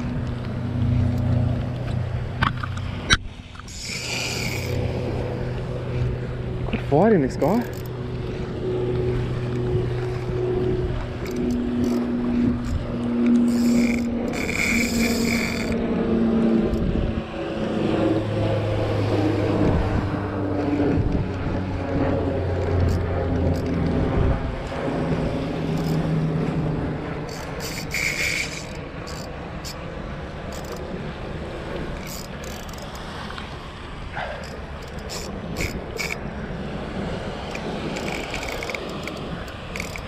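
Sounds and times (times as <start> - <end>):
fishing reel gears humming: 0.0 - 40.0.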